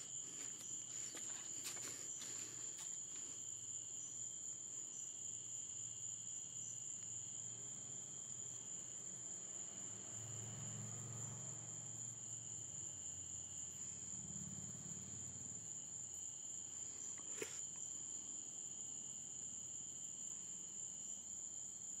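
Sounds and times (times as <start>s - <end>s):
high-pitched cricket trill: 0.0s - 22.0s
lower cricket trill: 0.0s - 22.0s.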